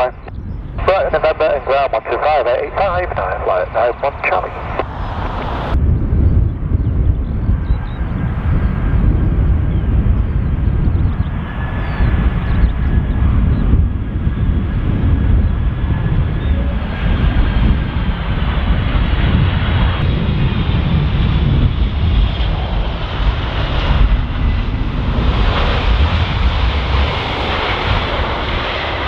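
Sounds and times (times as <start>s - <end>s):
jet engine whine: 0.0s - 29.0s
wind rumble on microphone: 0.0s - 29.0s.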